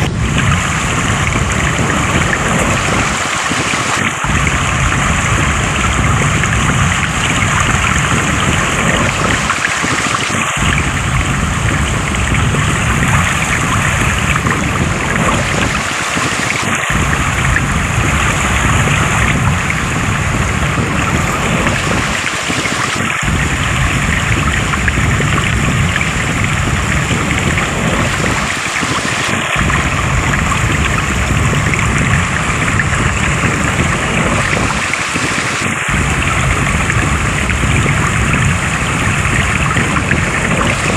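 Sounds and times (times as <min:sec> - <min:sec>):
rushing flowing water: 0:00.0 - 0:40.9.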